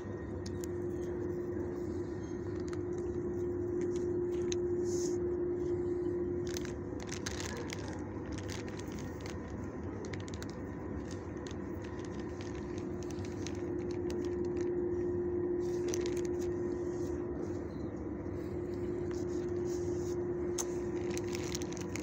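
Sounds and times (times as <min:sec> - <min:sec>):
steady mechanical hum: 0:00.0 - 0:22.0
plastic bag crinkling: 0:00.2 - 0:17.6, 0:18.3 - 0:22.0.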